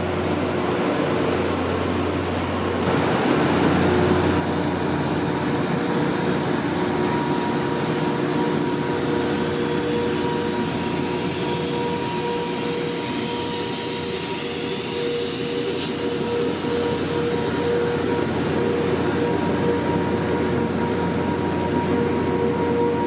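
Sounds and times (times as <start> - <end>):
train locomotive rumble: 0.0 - 23.0
high whine: 1.8 - 23.0.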